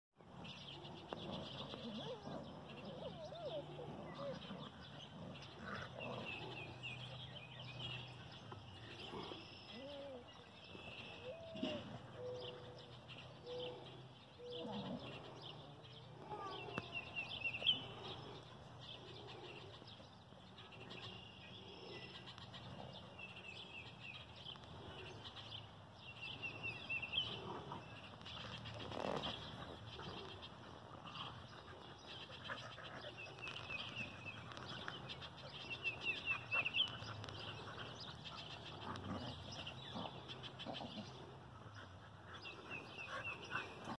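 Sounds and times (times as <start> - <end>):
birds chirping: 0.2 - 44.0.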